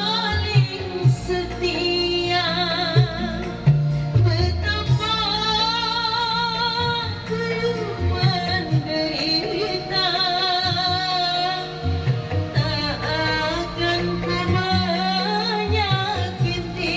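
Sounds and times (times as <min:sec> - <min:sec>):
music backing track: 0:00.0 - 0:16.9
person singing with vibrato: 0:00.0 - 0:16.9.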